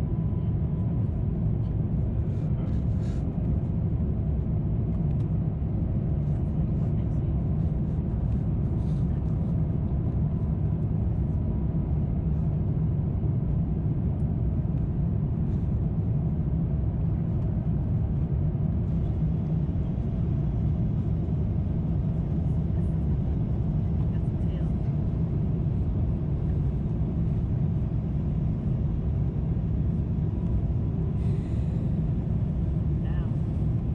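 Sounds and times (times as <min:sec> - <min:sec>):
airplane cabin rumble: 0:00.0 - 0:33.9.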